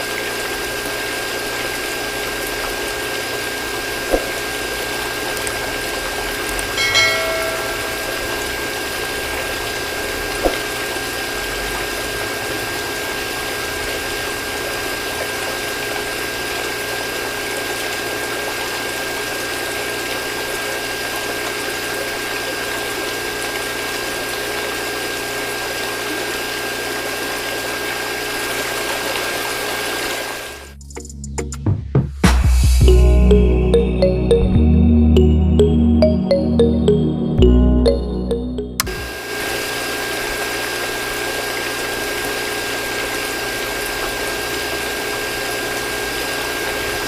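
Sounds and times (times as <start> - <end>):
water pump motor whine: 0.0 - 30.6, 38.8 - 47.0.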